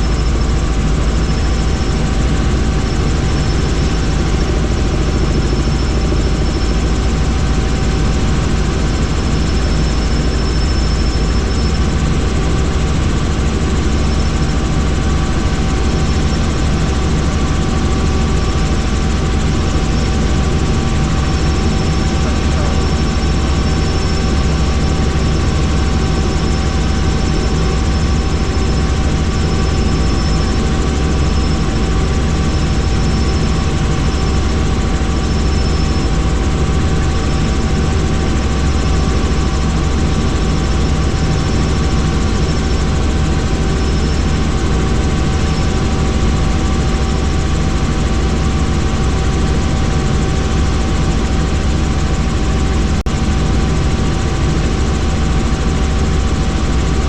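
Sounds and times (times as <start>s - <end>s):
helicopter rotor drone: 0.0s - 57.0s
high whine: 0.0s - 57.0s.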